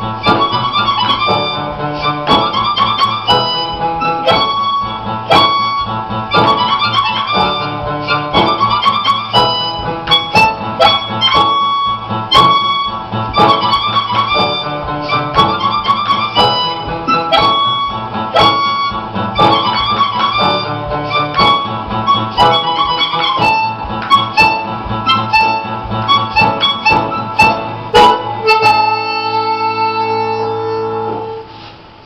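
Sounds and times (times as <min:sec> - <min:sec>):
harmonica melody: 0:00.0 - 0:31.6
backing music with steady beat: 0:00.0 - 0:32.0.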